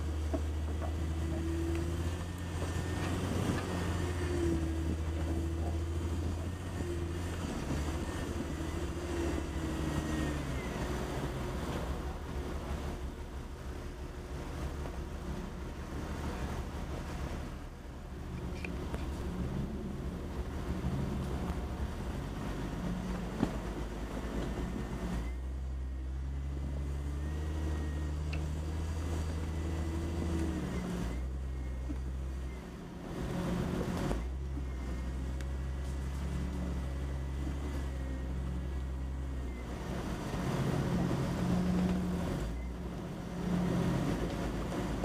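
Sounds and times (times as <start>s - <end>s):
engine running at low revs: 0.0s - 45.0s.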